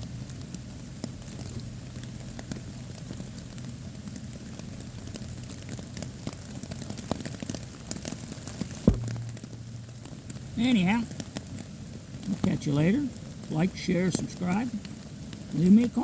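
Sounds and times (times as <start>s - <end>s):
rain on fabric shelter: 0.0s - 16.0s.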